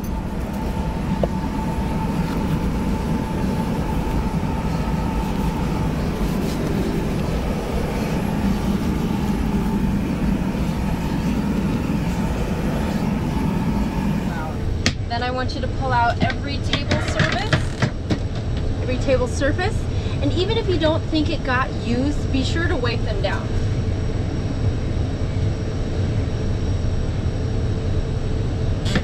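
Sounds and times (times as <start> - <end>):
cabin air system hum: 0.0 - 29.0
thin steady whine: 0.0 - 29.0.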